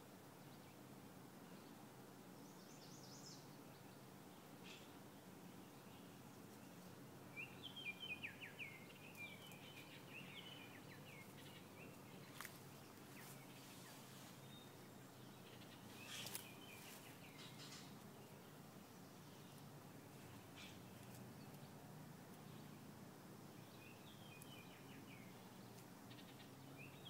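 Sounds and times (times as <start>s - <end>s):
songbird chirping: 0.0s - 27.0s.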